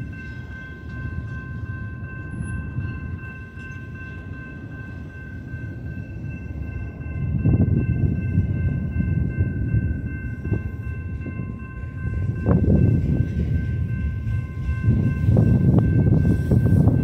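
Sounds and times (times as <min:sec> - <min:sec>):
container train rumbling past: 0:00.0 - 0:17.0.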